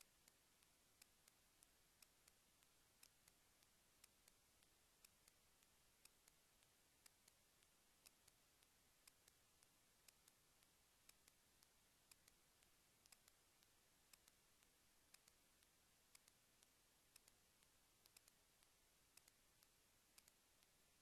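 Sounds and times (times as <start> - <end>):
faint regular ticking: 0.0 - 21.0
low hiss: 0.0 - 21.0.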